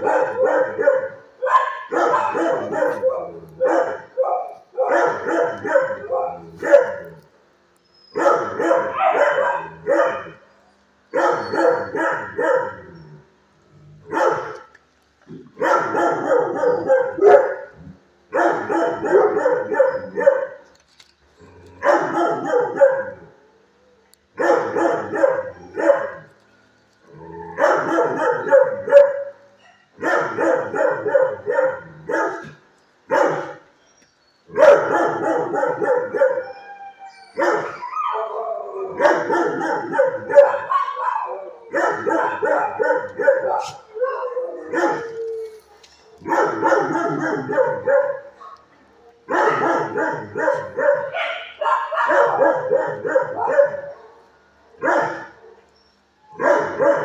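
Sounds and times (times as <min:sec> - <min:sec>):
dogs barking loudly: 0:00.0 - 0:07.3, 0:08.1 - 0:10.5, 0:11.1 - 0:20.7, 0:21.7 - 0:23.4, 0:24.3 - 0:26.4, 0:27.1 - 0:33.8, 0:34.4 - 0:36.7, 0:37.4 - 0:55.7, 0:56.3 - 0:57.0.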